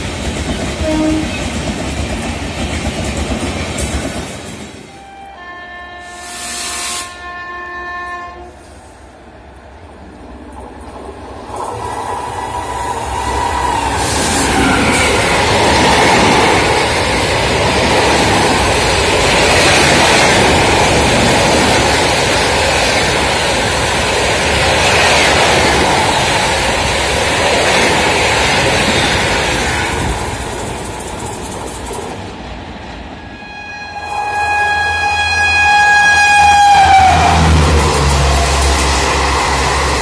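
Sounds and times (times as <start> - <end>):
train wheels rushing on rails: 0.0 - 40.0.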